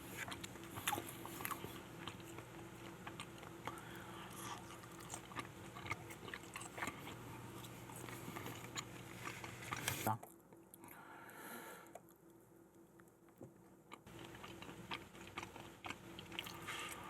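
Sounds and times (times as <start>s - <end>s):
steady low hum: 0.0s - 17.0s
chewing crunches: 0.2s - 10.8s, 13.0s - 17.0s.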